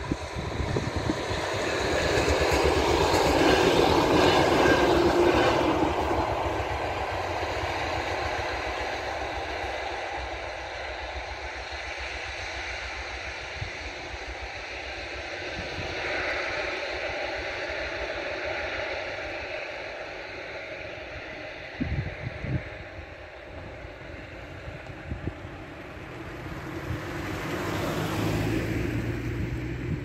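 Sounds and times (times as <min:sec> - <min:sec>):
train passing: 0:00.0 - 0:30.0.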